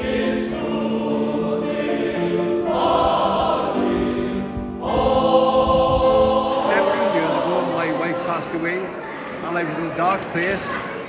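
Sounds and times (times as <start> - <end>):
male voice choir singing: 0.0 - 9.8.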